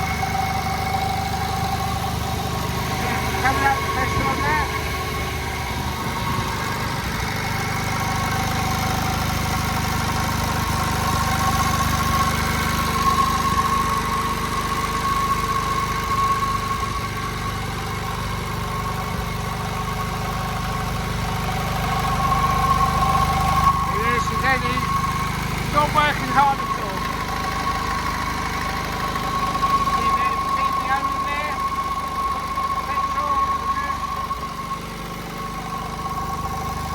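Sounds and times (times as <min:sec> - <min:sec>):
stationary engine running: 0:00.0 - 0:36.9
steady high tone: 0:00.0 - 0:36.9.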